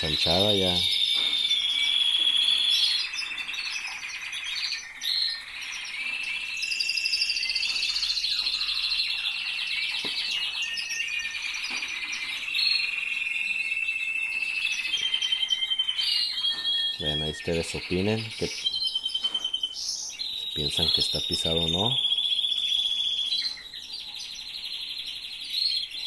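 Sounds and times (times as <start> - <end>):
canaries singing trills: 0.0 - 26.0.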